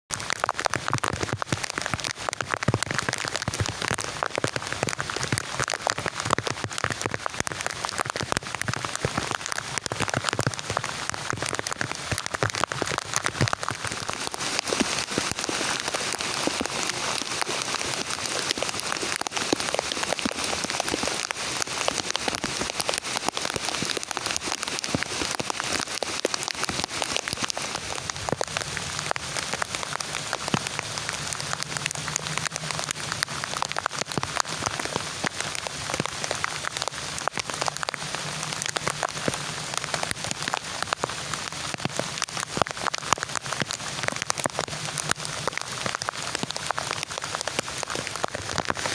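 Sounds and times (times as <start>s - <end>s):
heavy rain falling: 0.1s - 48.9s.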